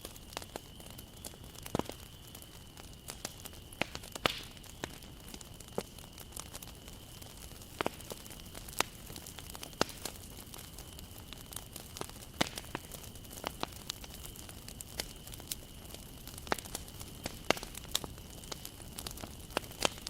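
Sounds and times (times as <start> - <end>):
low steady fire hiss: 0.0 - 20.0
wood crackling and popping: 0.0 - 20.0.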